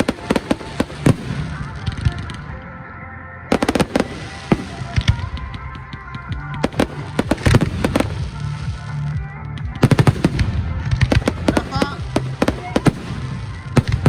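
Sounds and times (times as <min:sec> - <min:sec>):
fireworks bangs: 0:00.0 - 0:02.6, 0:03.5 - 0:14.0.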